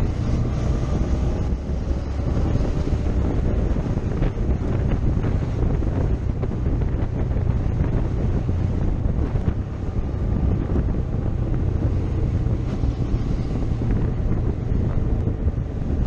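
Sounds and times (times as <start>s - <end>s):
motorcycle engine drone: 0.0s - 16.0s
wind buffeting microphone: 0.0s - 16.0s.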